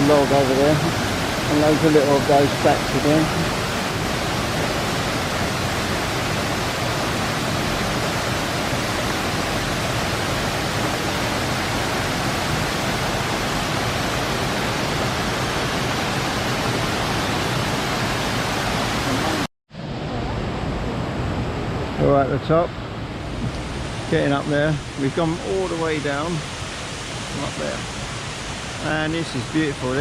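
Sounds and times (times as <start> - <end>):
waterfall rushing: 0.0 - 19.9, 23.4 - 30.0.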